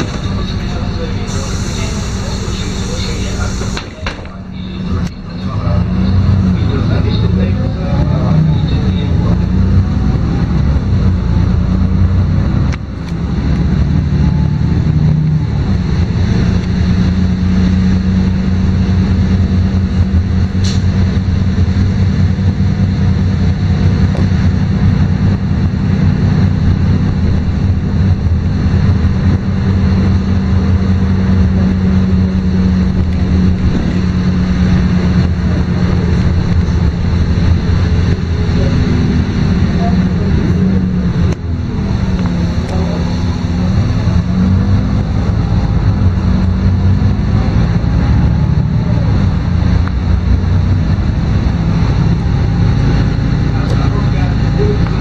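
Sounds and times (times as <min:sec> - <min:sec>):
bus engine droning: 0:00.0 - 0:55.0.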